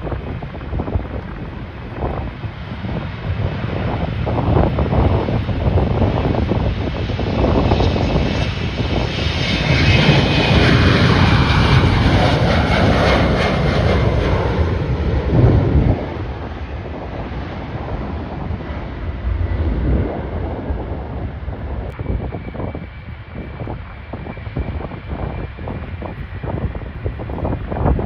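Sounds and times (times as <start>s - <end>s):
airliner engines passing with whine: 0.0s - 28.0s
wind rumble on microphone: 0.0s - 28.0s.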